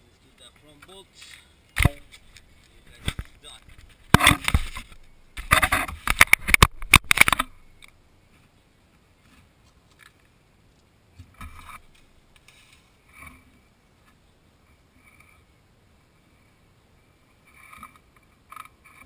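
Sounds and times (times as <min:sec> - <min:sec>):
small clicks and scrapes: 0:00.6 - 0:08.5, 0:09.2 - 0:15.4, 0:17.3 - 0:19.0.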